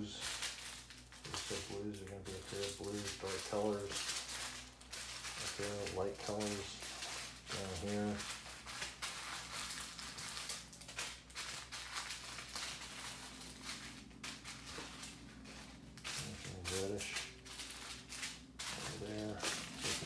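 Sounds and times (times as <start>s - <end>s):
plastic bags rustling and crinkling: 0.0s - 20.0s.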